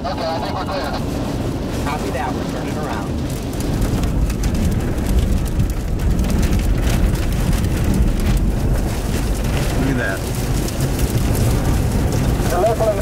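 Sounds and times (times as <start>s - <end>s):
low rumble: 0.0s - 13.0s
rain pelting vehicle roof: 0.0s - 13.0s.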